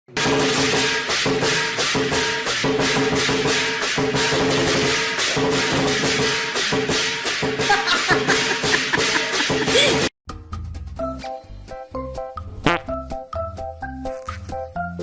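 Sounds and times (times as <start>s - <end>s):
upbeat music with percussive beat: 0.1s - 15.0s.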